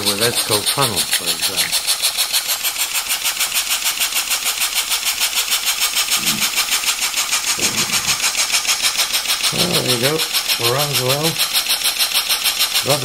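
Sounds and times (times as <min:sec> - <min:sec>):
model steam engine exhaust chuffing: 0:00.0 - 0:13.0.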